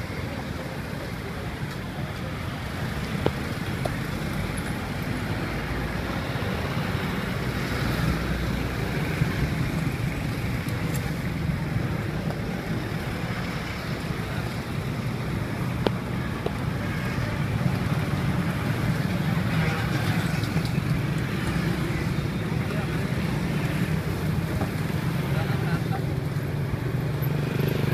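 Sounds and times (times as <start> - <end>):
low street rumble: 0.0 - 27.9.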